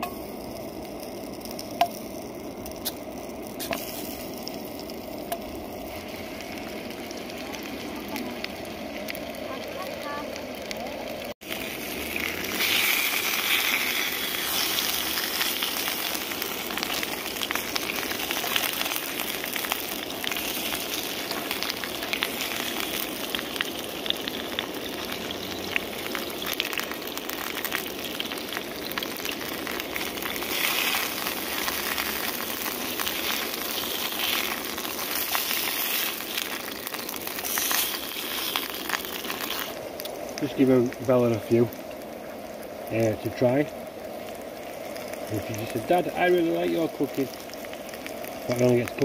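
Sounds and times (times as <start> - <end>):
potatoes sizzling in oil: 0.0 - 49.0.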